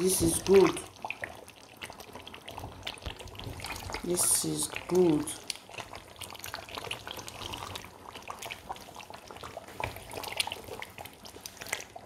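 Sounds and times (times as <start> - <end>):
stew bubbling and popping: 0.0 - 12.0.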